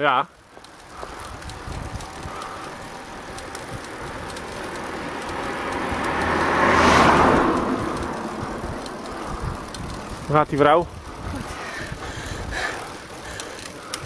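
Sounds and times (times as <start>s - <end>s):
bicycle tyre noise: 0.0s - 14.0s
car passing: 0.4s - 14.0s
wind noise: 0.6s - 14.0s.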